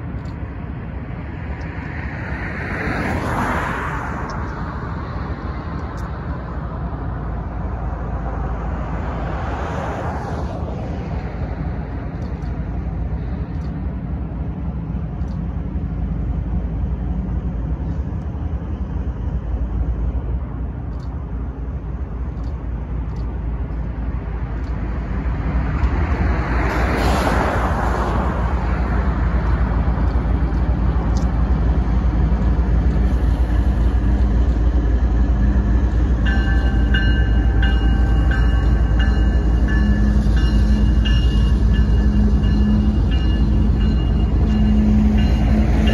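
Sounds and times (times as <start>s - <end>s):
diesel locomotive engine rumble: 0.0s - 45.9s.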